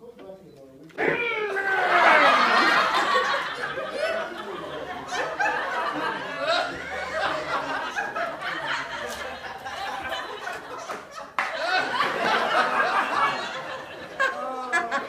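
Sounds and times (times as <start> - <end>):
people talking: 0.0 - 15.0
people laughing: 1.4 - 15.0.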